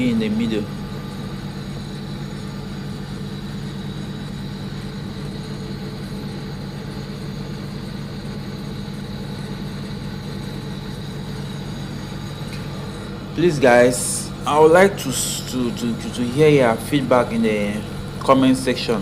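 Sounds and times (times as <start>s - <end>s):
machine hum with hiss: 0.0s - 19.0s.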